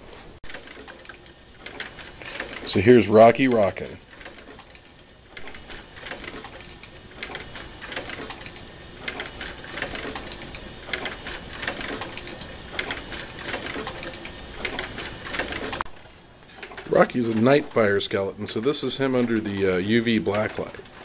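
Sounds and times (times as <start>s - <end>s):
rocking chair clicks and knocks: 0.4s - 21.0s.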